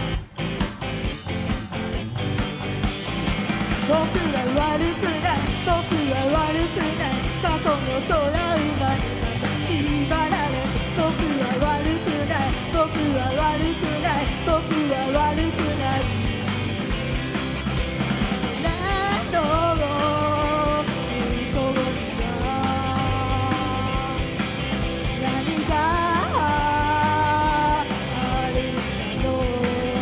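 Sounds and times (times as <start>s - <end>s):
live rock band playing: 0.0s - 30.0s
lead vocalist singing: 3.8s - 16.4s, 18.5s - 30.0s.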